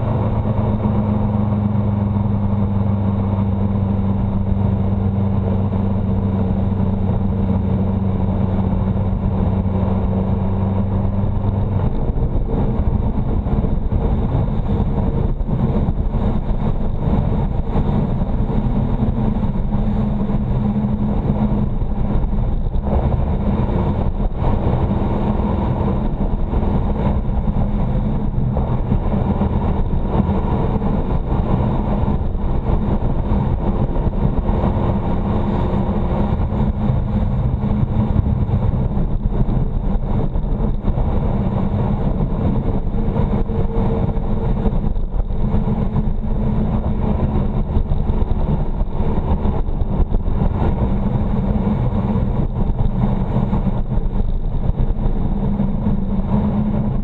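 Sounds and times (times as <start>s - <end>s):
motorcycle engine running: 0.0s - 57.0s
wind and road rush: 0.0s - 57.0s.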